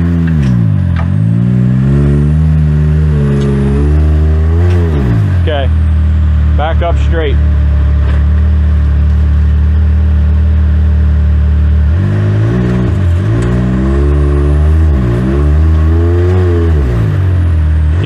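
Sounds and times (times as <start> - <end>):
utility vehicle engine revving: 0.0 - 18.0.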